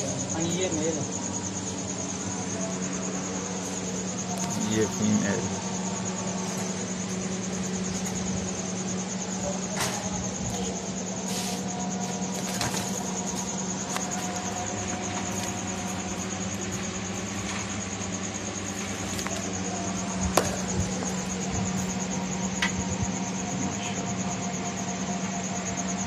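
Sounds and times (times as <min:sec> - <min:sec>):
high whine: 0:00.0 - 0:26.0
machine hum: 0:00.0 - 0:26.0.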